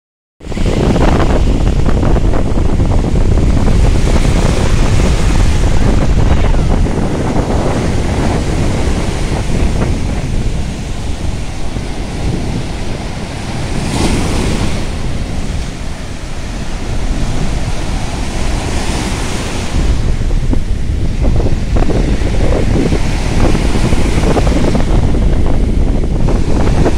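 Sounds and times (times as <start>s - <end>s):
waves breaking on shore: 0.4s - 26.9s
wind rumble on microphone: 0.4s - 26.9s.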